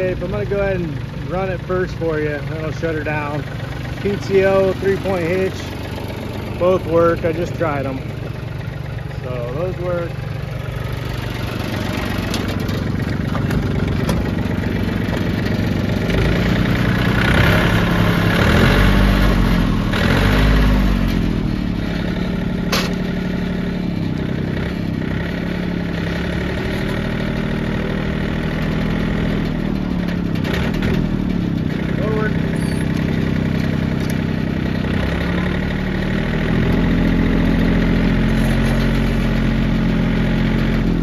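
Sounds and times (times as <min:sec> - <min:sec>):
tractor diesel engine revving: 0:00.0 - 0:41.0.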